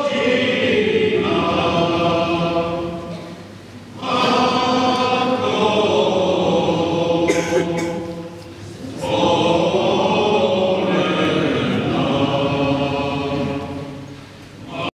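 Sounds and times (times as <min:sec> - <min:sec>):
male choir singing in harmony: 0:00.0 - 0:14.9.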